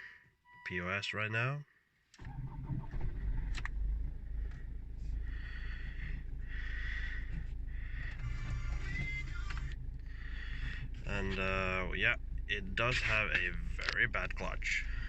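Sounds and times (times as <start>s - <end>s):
diesel engine idling: 2.2s - 15.0s.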